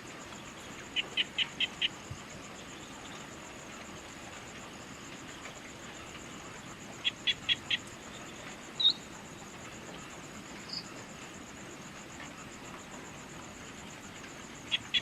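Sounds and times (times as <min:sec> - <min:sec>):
high-pitched insect trill: 0:00.0 - 0:15.0
soft background hiss: 0:00.0 - 0:15.0.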